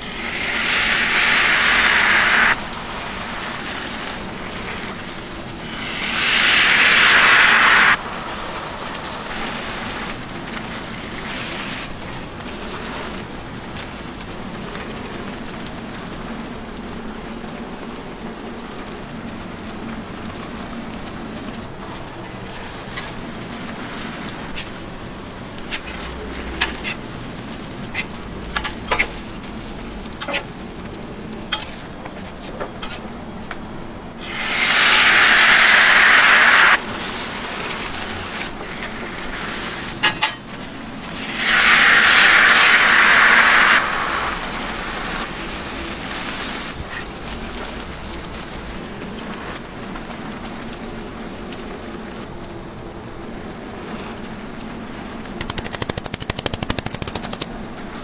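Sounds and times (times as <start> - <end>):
egg sizzling on hot griddle: 0.0 - 58.0.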